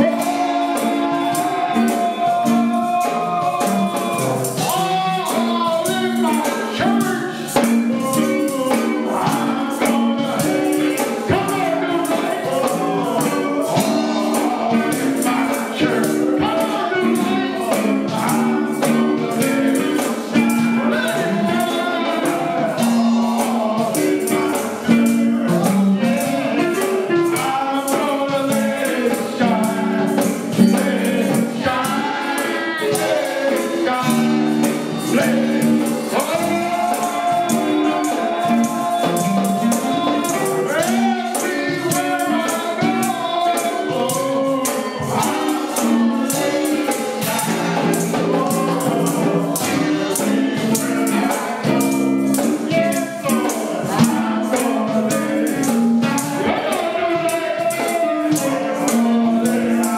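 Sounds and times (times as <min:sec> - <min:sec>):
choir singing gospel: 0:00.0 - 0:59.9
tambourine shaking: 0:00.0 - 0:59.9.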